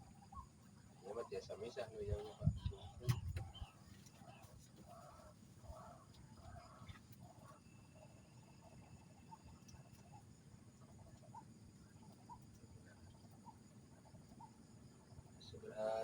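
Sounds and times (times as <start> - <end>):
faint thin steady tone: 0.0 - 16.0.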